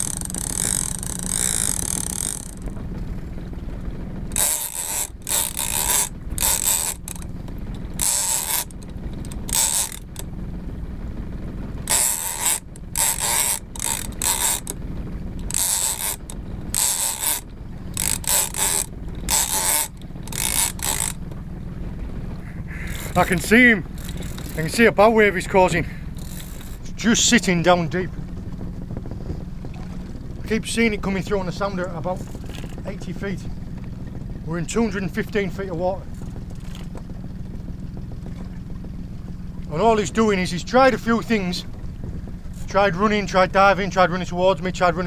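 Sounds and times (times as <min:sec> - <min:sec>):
fishing reel gears whirring: 0:00.0 - 0:10.8, 0:11.7 - 0:45.0
steady low rumble: 0:00.0 - 0:45.0.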